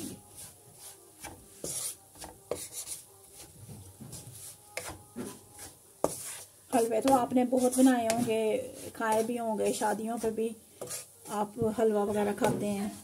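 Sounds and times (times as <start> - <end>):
wooden spatula scraping pan: 0.0 - 13.0.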